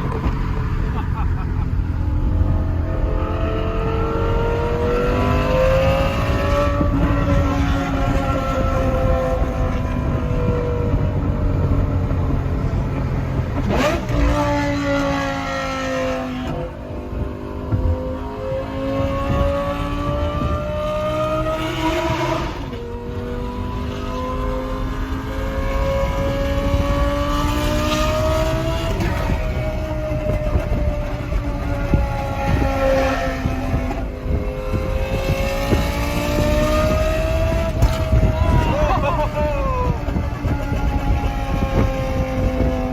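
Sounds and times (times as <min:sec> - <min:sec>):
sports car engine revving: 0:00.0 - 0:42.9.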